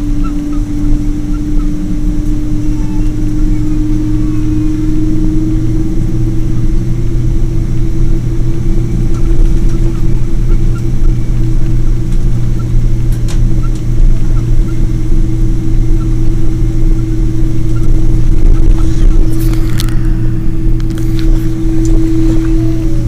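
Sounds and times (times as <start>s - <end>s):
jet engines droning: 0.0s - 23.0s.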